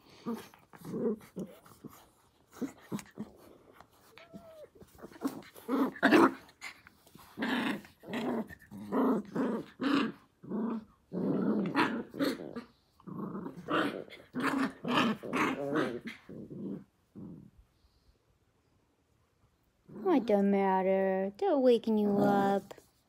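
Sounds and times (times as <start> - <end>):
puppies growling in play: 0.0 - 18.2, 19.6 - 20.5.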